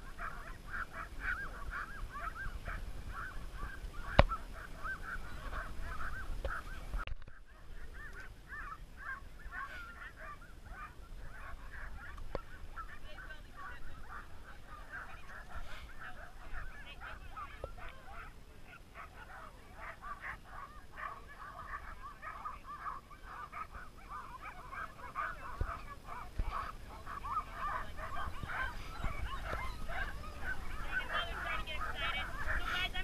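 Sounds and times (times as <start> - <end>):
dogs yelping and whining: 0.0 - 33.0
wind rumbling on microphone: 0.0 - 33.0.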